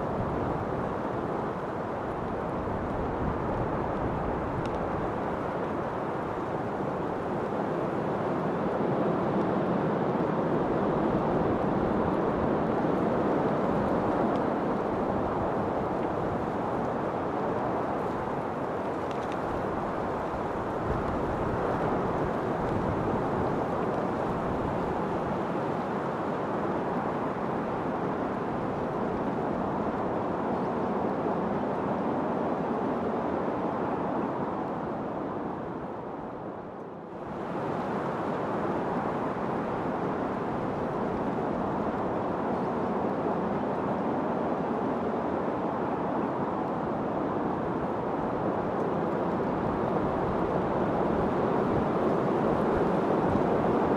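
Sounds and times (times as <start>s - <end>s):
rushing wind: 0.0s - 53.9s.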